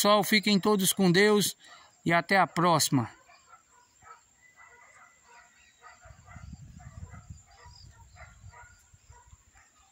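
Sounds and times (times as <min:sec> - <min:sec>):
birds chirping: 0:00.0 - 0:09.9.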